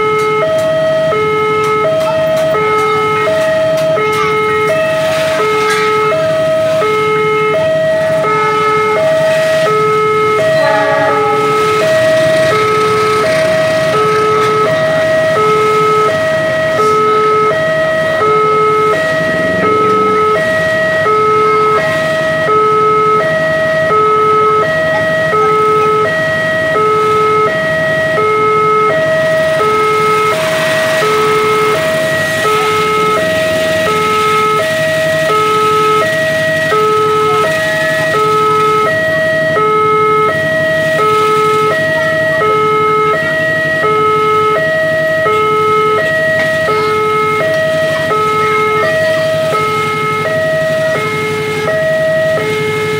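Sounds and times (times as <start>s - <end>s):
level crossing two-tone alarm: 0.0s - 52.9s.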